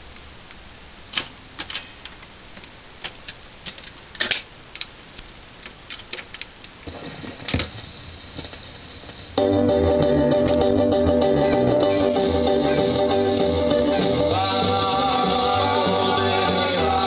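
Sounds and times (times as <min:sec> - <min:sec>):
faint record surface hiss: 0:00.0 - 0:17.0.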